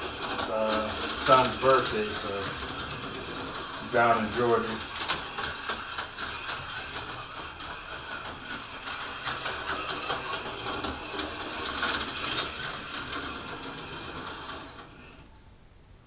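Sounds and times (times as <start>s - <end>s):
rapid small clicks: 0.0s - 15.3s
model vehicle motor whirring: 0.0s - 15.4s.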